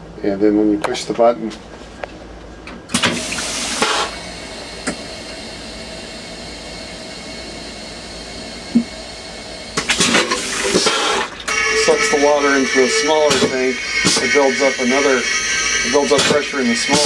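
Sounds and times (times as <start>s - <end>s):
vacuum toilet flushing: 2.9s - 17.0s.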